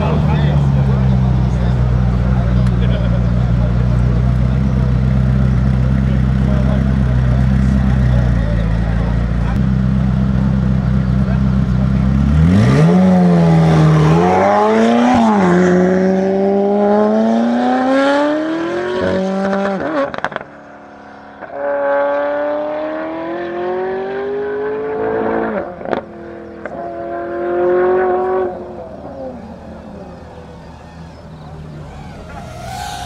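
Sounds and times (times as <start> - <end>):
sports car accelerating hard: 0.0 - 33.0.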